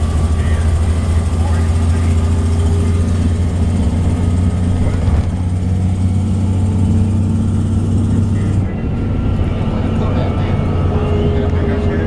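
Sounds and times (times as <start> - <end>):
bus engine hum: 0.0 - 12.0
road noise: 0.0 - 12.0.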